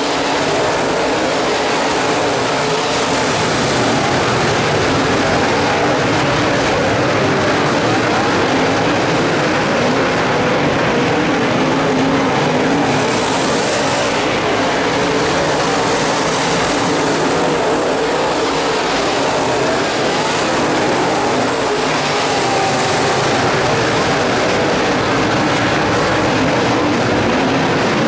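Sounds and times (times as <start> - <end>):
race car engines droning: 0.0 - 28.0.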